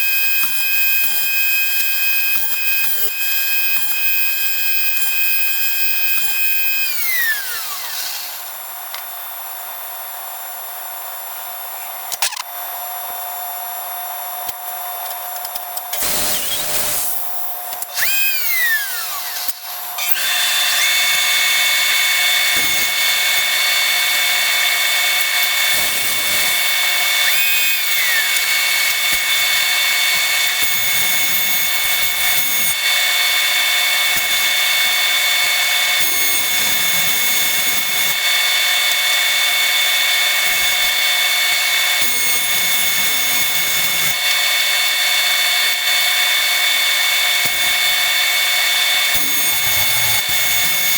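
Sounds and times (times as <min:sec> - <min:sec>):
high-pitched power tool whine: 0:00.0 - 0:50.9.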